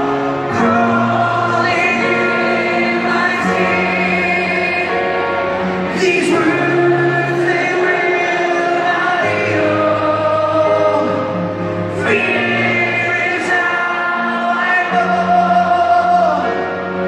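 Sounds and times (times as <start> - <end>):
slow background music: 0.0 - 17.0
voices singing: 0.0 - 17.0.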